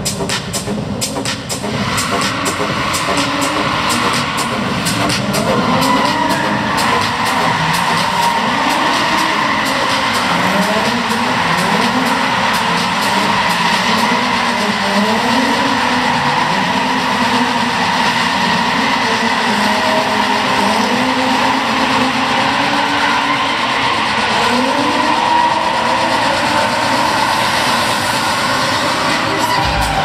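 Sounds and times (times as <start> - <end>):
car engines revving: 0.0 - 30.0
tyres screeching: 1.6 - 30.0.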